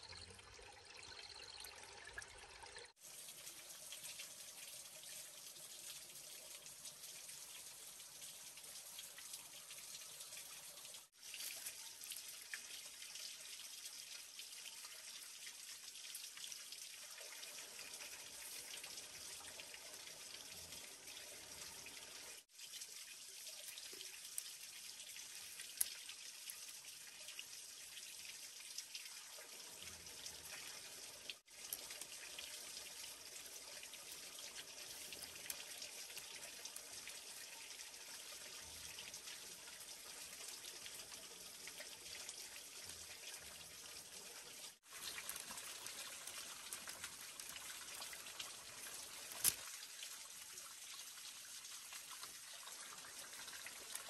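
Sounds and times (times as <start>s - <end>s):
running water hiss: 3.0s - 29.0s, 29.6s - 54.0s.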